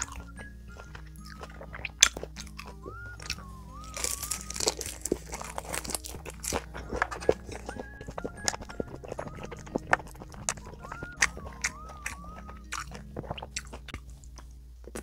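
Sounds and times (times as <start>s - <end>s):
chewing: 0.0s - 15.0s
crisp crunch of biting: 0.0s - 15.0s
small mouth clicks: 0.0s - 15.0s
soft background music: 0.0s - 15.0s.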